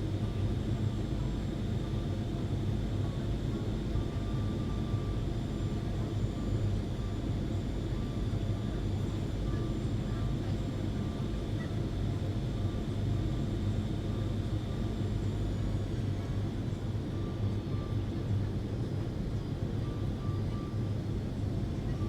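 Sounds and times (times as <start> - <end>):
low rumble of jet engines: 0.0 - 22.0.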